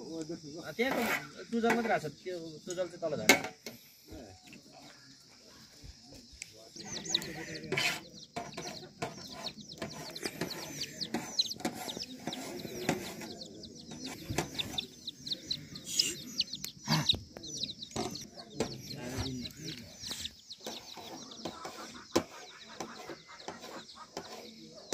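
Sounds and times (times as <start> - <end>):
chicks peeping: 4.4 - 24.9.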